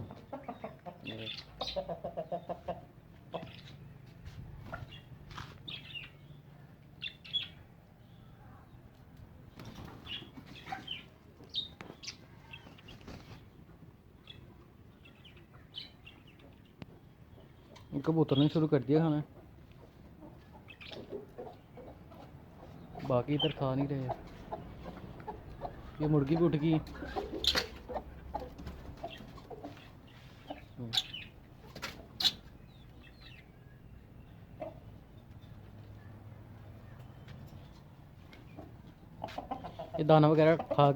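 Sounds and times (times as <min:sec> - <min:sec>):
chickens clucking: 0:00.0 - 0:06.1, 0:08.7 - 0:40.9
chickens chirping: 0:00.0 - 0:40.9.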